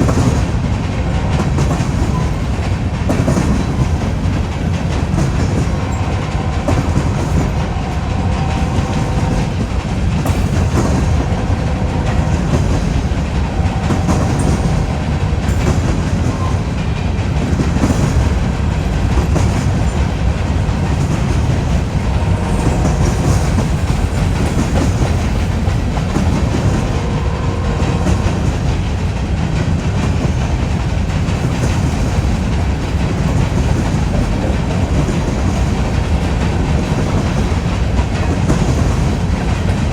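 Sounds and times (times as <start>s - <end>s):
freight train cars rolling: 0.0s - 39.9s
wheels clacking over rail joints: 0.0s - 39.9s.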